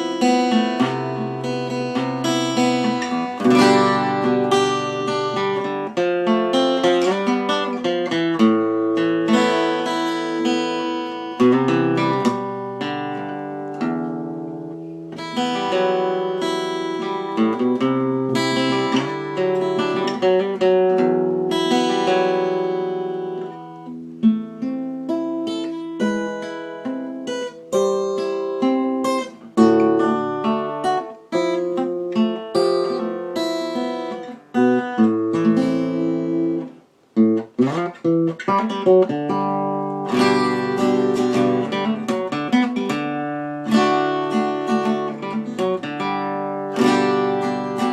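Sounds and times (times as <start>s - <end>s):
acoustic guitar playing: 0.0s - 47.9s.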